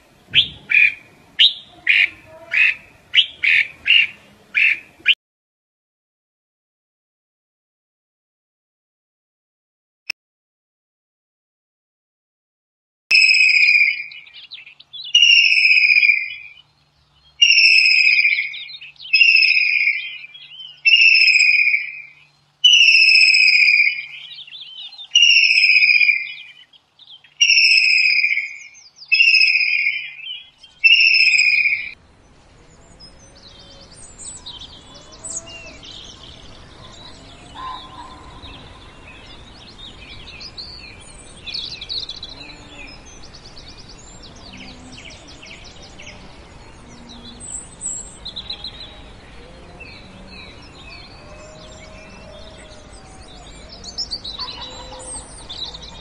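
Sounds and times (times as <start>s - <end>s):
small birds chirping and trilling: 0.2s - 5.2s, 13.1s - 56.0s
loud bird calls: 0.3s - 5.2s, 13.1s - 56.0s.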